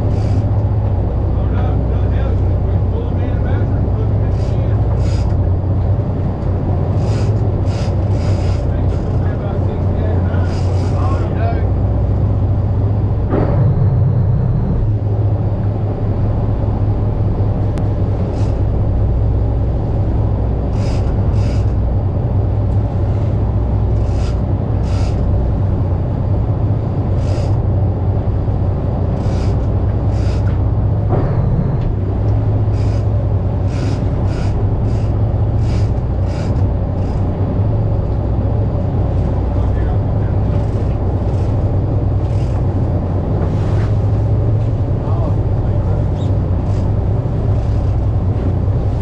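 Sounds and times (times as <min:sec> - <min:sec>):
boat engine humming: 0:00.0 - 0:49.0.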